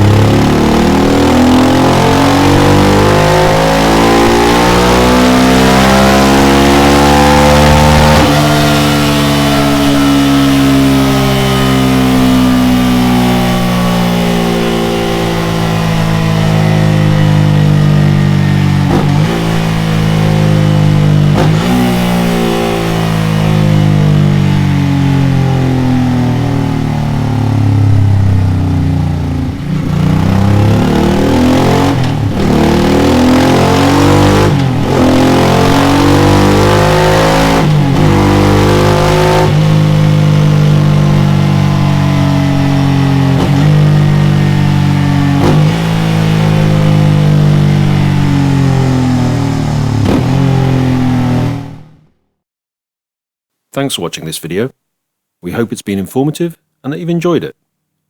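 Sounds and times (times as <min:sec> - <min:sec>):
motorcycle engine revving: 0:00.0 - 0:52.1.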